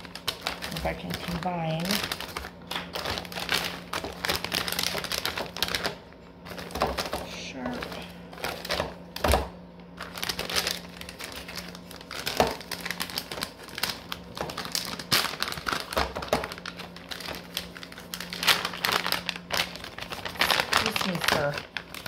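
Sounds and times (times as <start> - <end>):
low steady hum: 0.0 - 22.0
plastic bags crinkling: 0.0 - 22.0.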